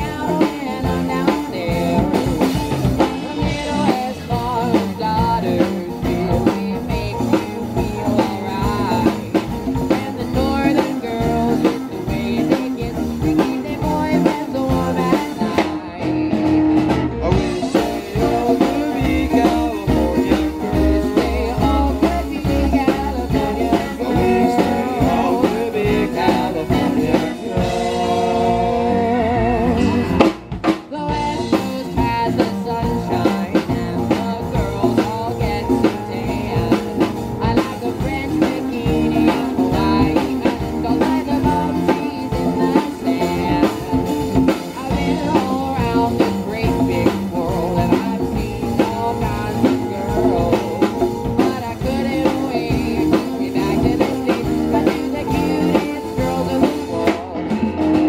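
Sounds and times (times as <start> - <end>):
rock band playing soft rock: 0.0 - 58.0.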